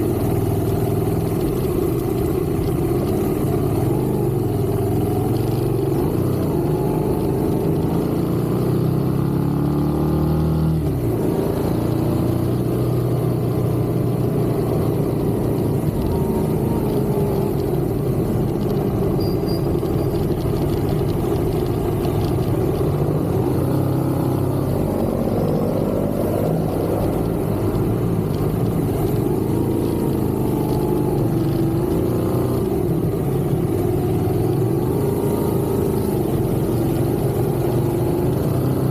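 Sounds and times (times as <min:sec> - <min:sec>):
road noise: 0:00.0 - 0:38.9
vehicle engine: 0:00.0 - 0:38.9.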